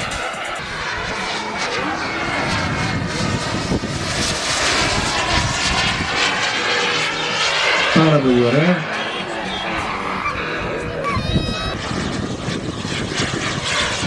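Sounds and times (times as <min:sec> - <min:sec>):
model jet turbine rushing: 0:00.0 - 0:14.0.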